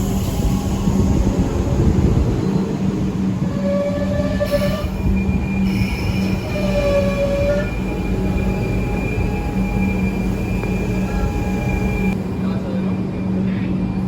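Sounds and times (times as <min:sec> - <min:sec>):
train squealing: 0:00.0 - 0:13.7
train humming: 0:00.0 - 0:14.0.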